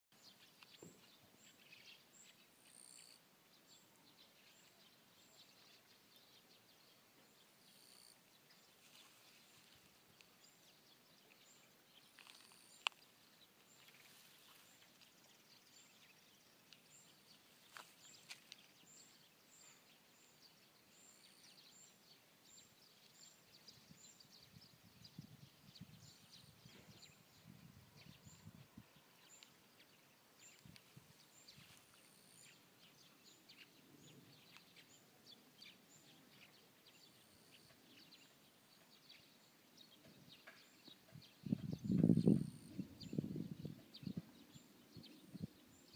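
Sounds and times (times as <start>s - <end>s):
faint high-pitched chirping: 0.1s - 45.9s.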